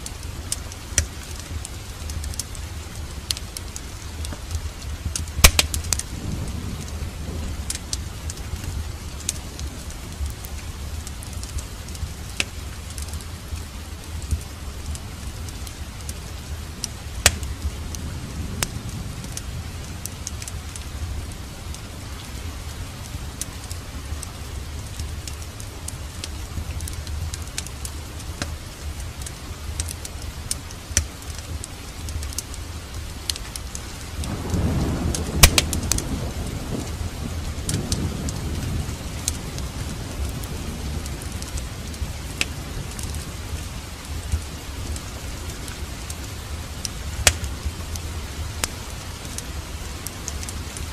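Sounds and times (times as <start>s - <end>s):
steady rain: 0.0s - 50.9s
wood fire crackling and popping: 0.0s - 50.9s
low rumble of thunder: 1.5s - 28.1s, 33.8s - 50.9s.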